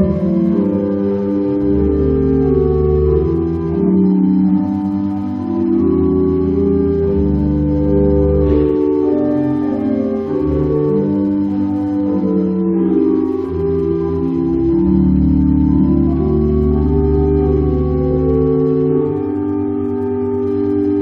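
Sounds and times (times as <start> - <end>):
organ playing slow chords: 0.0 - 21.0.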